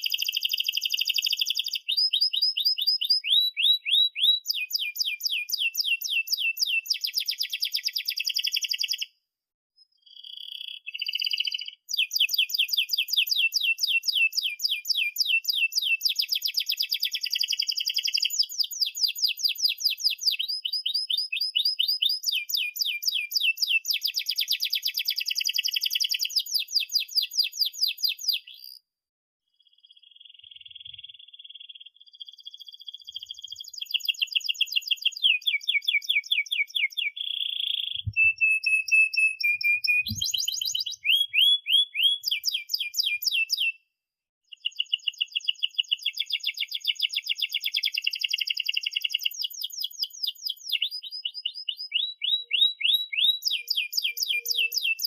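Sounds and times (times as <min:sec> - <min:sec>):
canary singing trills: 0:00.0 - 0:09.1, 0:09.8 - 0:28.8, 0:29.6 - 0:43.8, 0:44.5 - 0:55.0.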